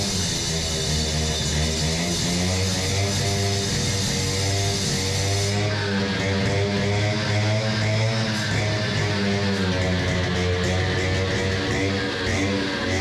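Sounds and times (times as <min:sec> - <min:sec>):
rock music with guitar and bass: 0:00.0 - 0:13.0.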